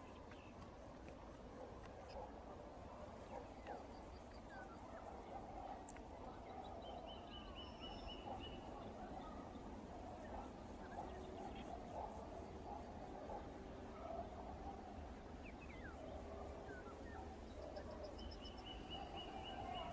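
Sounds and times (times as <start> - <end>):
faint songbirds chirping: 0.0 - 19.9.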